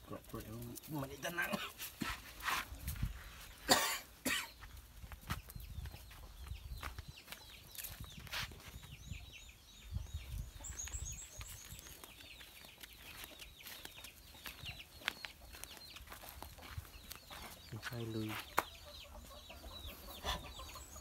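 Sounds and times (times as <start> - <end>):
chickens chirping: 0.0 - 21.0.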